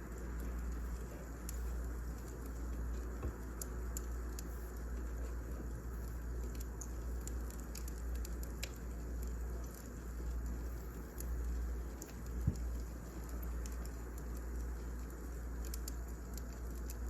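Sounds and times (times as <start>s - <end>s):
fire popping and crackling: 0.0s - 17.0s
wood fire rumbling: 0.0s - 17.0s.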